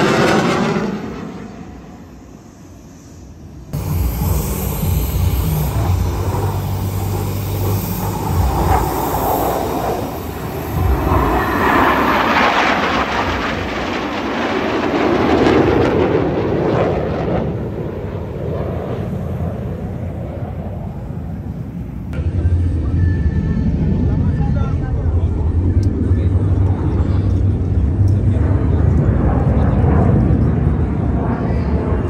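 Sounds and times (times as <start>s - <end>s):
jets flying past: 0.0s - 32.0s.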